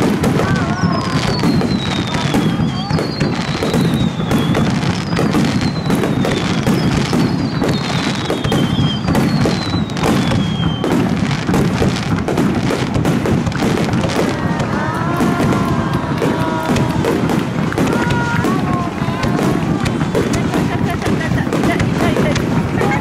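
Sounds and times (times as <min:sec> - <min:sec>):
falling firework whistles: 0:00.0 - 0:23.0
firework bursts and crackling: 0:00.0 - 0:23.0.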